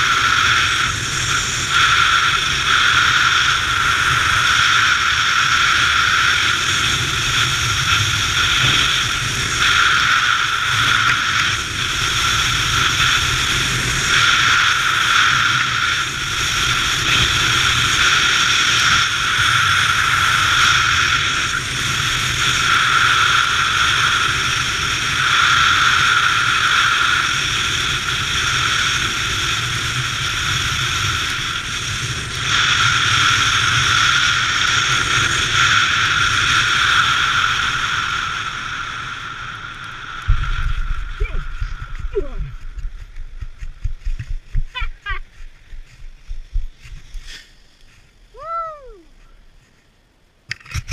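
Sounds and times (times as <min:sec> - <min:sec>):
wind buffeting microphone: 0:00.0 - 0:47.3.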